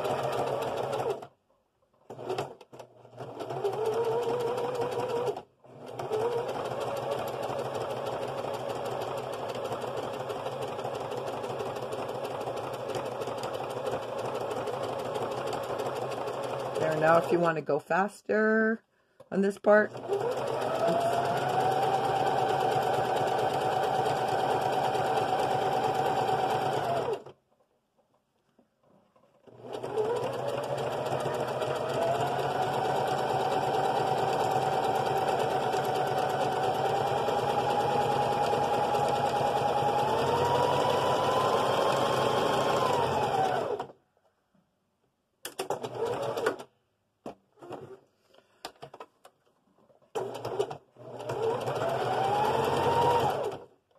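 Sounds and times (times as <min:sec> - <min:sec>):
electric sewing machine stitching: 0:00.0 - 0:01.3, 0:02.0 - 0:17.6, 0:19.7 - 0:27.4, 0:29.4 - 0:44.0, 0:45.5 - 0:46.7, 0:50.1 - 0:53.8.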